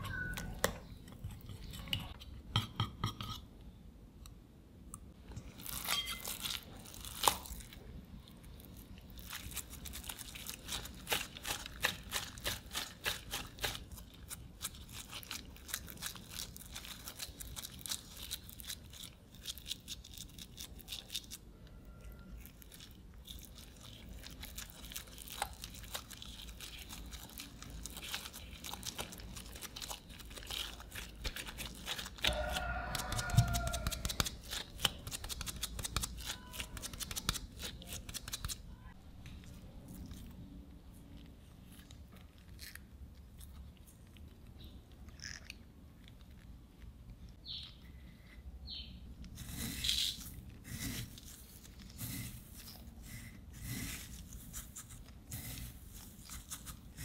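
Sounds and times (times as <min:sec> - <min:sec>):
wet squishing of kneaded mixture: 0:05.0 - 0:57.0.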